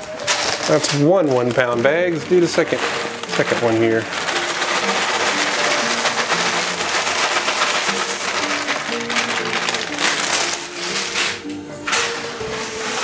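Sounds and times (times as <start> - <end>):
background music: 0.0 - 13.0
dry cereal pouring into metal tub: 0.0 - 13.0.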